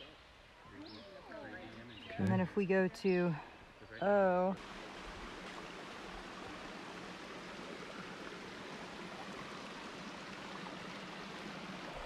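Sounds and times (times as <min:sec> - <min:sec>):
creek babbling over stones: 0:00.0 - 0:12.0.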